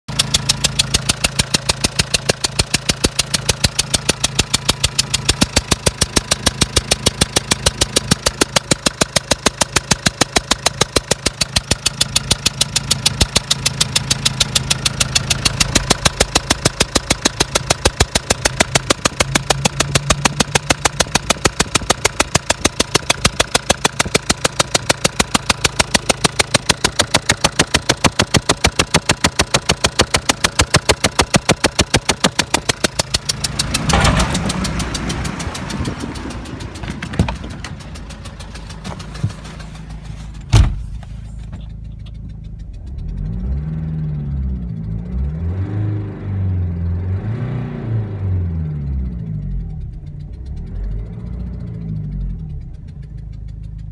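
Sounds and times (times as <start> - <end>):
diesel engine idling: 0.0 - 47.5, 48.2 - 53.9
sharp regular engine knock: 0.1 - 43.9, 49.0 - 53.9.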